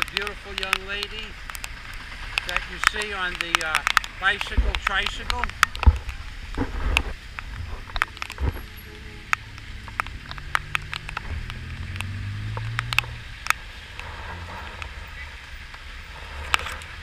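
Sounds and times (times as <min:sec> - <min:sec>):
raindrops ticking on camera housing: 0:00.0 - 0:17.0
vehicle engine hum: 0:00.0 - 0:17.0.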